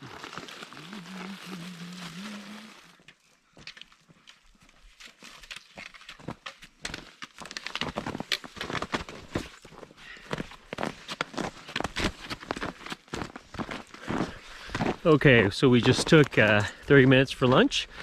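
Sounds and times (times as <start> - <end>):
crunching footsteps: 0.0 - 17.6.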